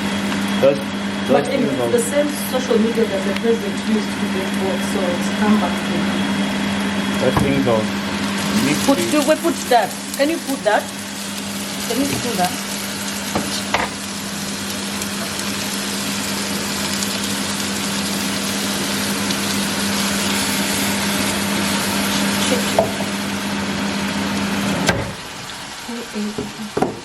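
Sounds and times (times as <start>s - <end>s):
kitchen appliance motor hum: 0.0s - 27.0s.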